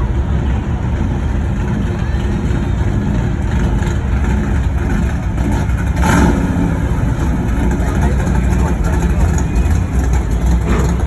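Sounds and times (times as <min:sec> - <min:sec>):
car engines in slow traffic: 0:00.0 - 0:11.0.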